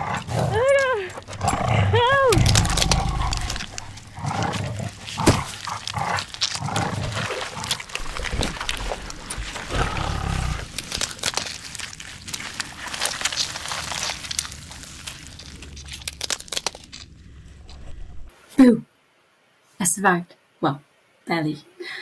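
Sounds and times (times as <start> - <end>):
beast growling: 0.0 - 18.3.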